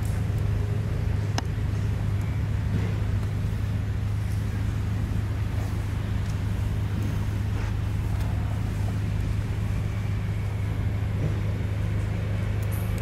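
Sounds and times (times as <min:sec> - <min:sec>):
constant hiss: 0:00.0 - 0:13.0
low engine drone: 0:00.0 - 0:13.0.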